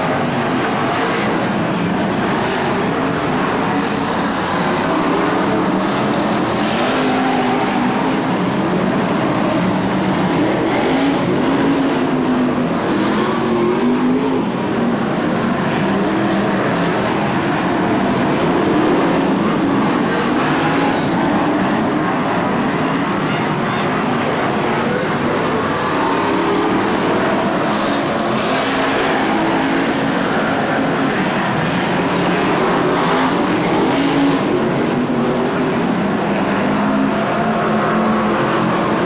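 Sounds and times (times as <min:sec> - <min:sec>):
racing car engines revving: 0:00.0 - 0:39.0.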